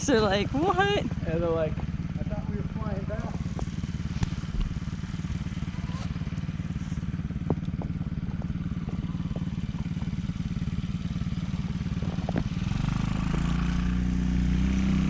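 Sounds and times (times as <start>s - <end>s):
atv engine idling and revving: 0.0s - 15.0s.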